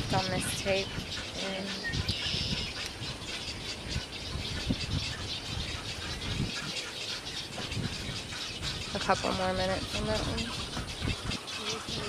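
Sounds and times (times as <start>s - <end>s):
many birds calling: 0.0s - 12.0s.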